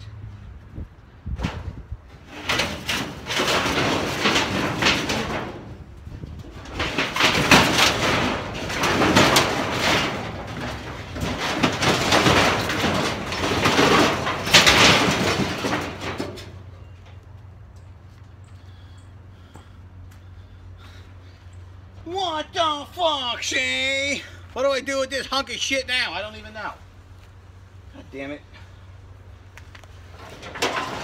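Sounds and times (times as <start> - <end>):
sheet steel scraping and crumpling: 1.3 - 19.5, 20.3 - 31.0.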